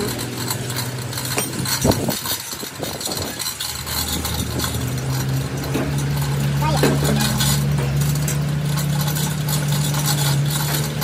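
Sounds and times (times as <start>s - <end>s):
metal clanks and knocks: 0.0s - 11.0s.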